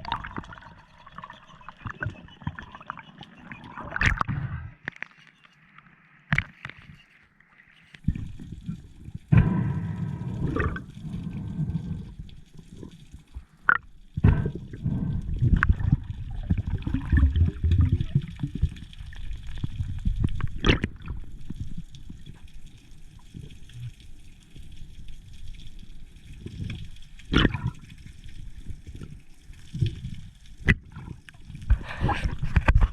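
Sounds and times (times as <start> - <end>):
water sloshing and gurgling: 0.0 - 32.9.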